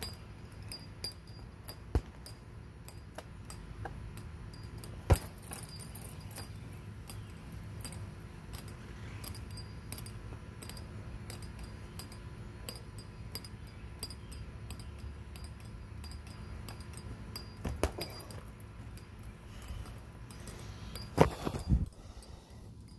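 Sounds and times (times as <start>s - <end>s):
metal chain clinking: 0.0s - 22.9s.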